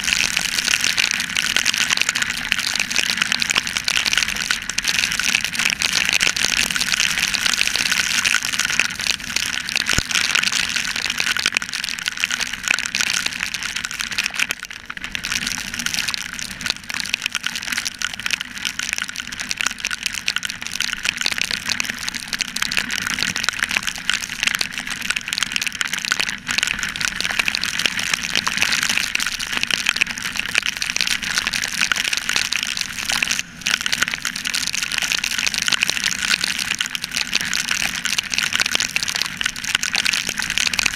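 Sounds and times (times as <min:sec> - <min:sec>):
heavy rain hissing on camera: 0:00.0 - 0:40.9.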